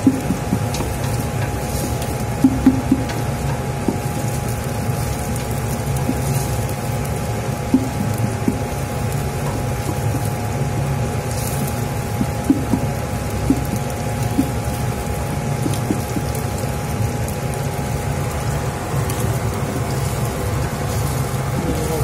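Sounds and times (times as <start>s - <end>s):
garlic and onion sizzling in oil: 0.0s - 22.0s
steady hum: 0.0s - 22.0s.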